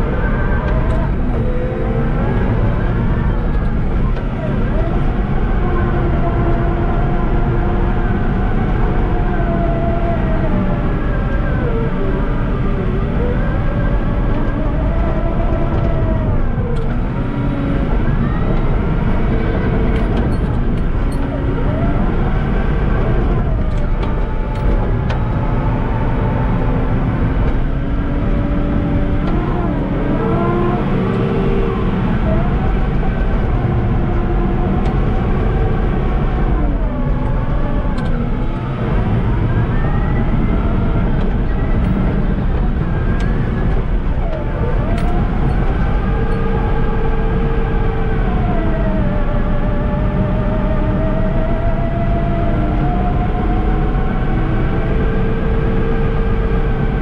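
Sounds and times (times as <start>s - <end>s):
diesel engine running hard: 0.0s - 57.0s.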